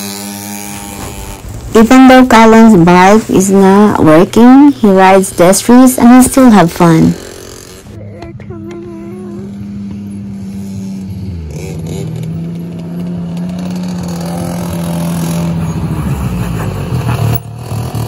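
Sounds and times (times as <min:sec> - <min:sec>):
utility vehicle engine running: 0:00.0 - 0:18.0.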